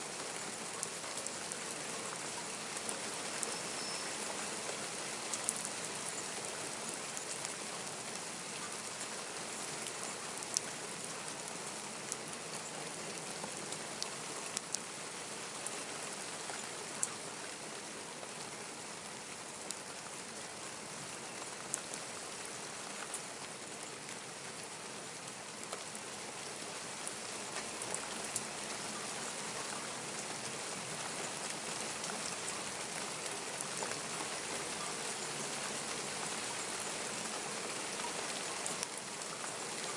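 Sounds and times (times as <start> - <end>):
steady rain hiss: 0.0 - 39.9
raindrops clicking close by: 0.1 - 39.9.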